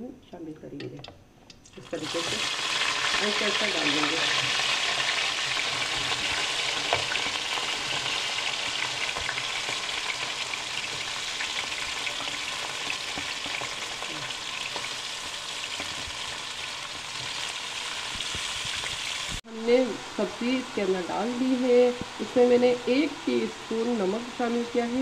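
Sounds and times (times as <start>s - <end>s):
vegetables sizzling in hot oil: 1.6s - 25.0s.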